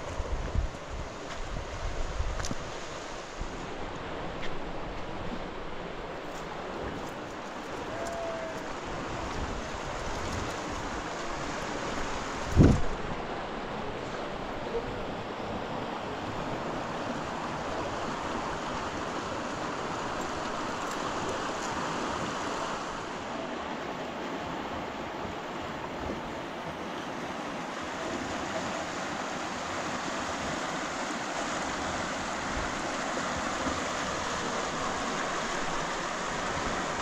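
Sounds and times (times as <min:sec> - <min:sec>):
wind and water rushing: 0:00.0 - 0:37.0.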